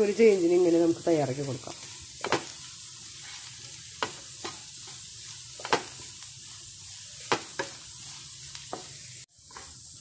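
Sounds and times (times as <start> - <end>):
potato strips sizzling in oil: 0.0 - 10.0.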